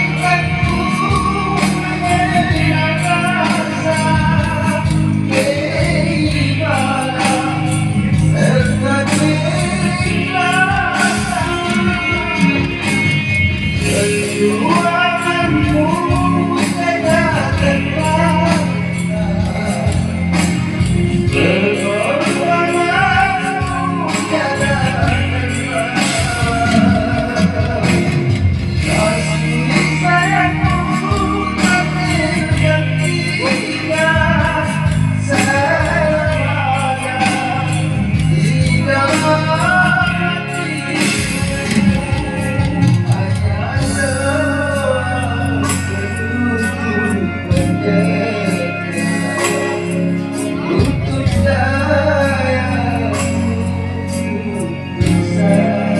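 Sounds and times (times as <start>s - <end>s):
instrumental accompaniment: 0.0s - 55.9s
melodic line of bending notes: 0.0s - 55.9s
person singing: 0.0s - 55.9s
steady bass: 0.0s - 55.9s.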